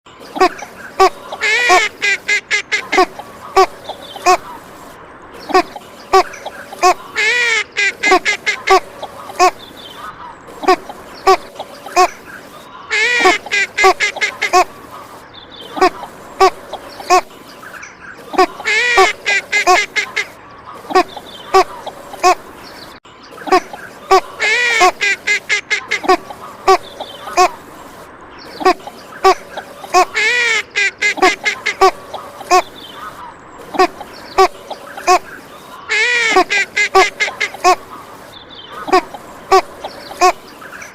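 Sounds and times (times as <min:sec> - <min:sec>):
duck quacking: 0:00.4 - 0:04.6, 0:05.5 - 0:15.1, 0:15.7 - 0:17.3, 0:18.3 - 0:22.5, 0:23.4 - 0:27.6, 0:28.6 - 0:38.1, 0:38.7 - 0:40.9.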